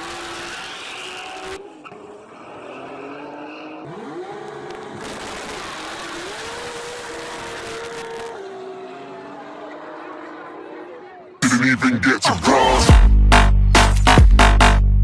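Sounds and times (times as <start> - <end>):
car engines accelerating: 0.0 - 14.8.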